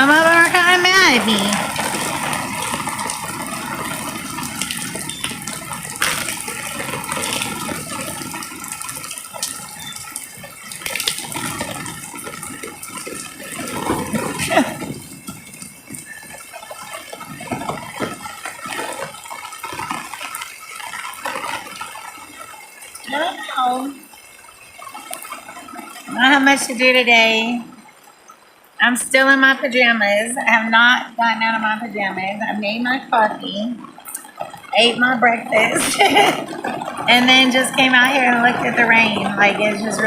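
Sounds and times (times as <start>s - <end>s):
sharp drip ticks: 0.0s - 27.2s, 32.0s - 40.0s
heavy rain falling: 0.0s - 40.0s
water running and splashing: 0.0s - 40.0s.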